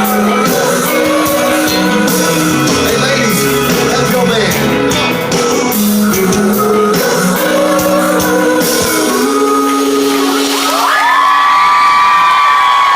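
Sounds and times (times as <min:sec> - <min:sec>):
person singing: 0:00.0 - 0:11.2
drums: 0:00.0 - 0:12.9
electric guitars: 0:00.0 - 0:12.9.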